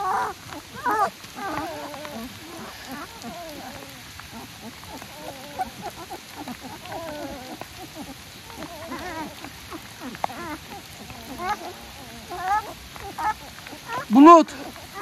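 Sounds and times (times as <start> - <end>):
puppies whimpering: 0.0 - 15.0.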